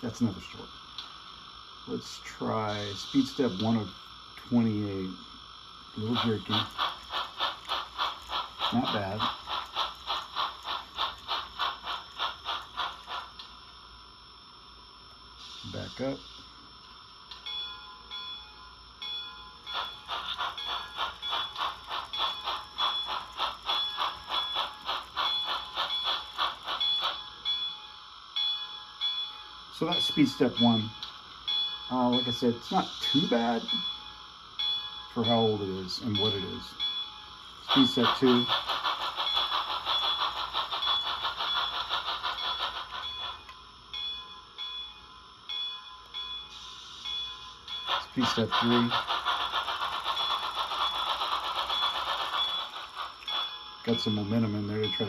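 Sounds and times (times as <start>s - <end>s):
model train steam chuffs: 0.0s - 13.7s, 15.3s - 16.5s, 19.6s - 28.0s, 28.6s - 44.6s, 46.4s - 55.0s.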